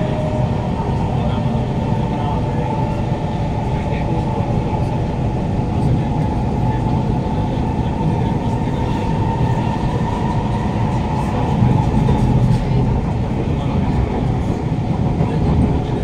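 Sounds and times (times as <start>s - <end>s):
train passing: 0.0s - 16.0s
wheel-on-rail rumble: 0.0s - 16.0s.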